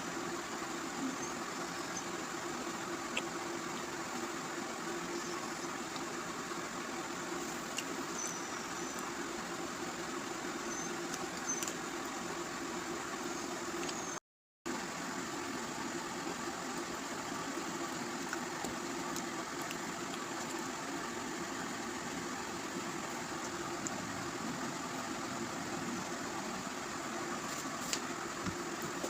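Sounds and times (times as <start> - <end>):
mechanical hum with hiss: 0.0 - 29.0.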